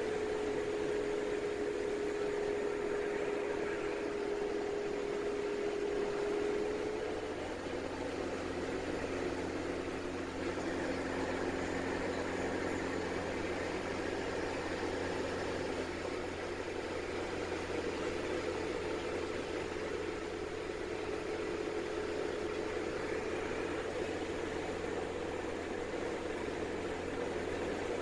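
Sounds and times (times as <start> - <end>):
propeller plane engine drone: 0.0 - 28.0.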